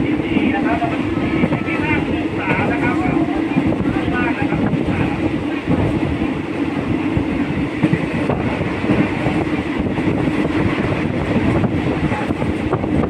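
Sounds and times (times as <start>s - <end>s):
rail clatter: 0.0s - 13.0s
train wheels rumbling on rails: 0.0s - 13.0s.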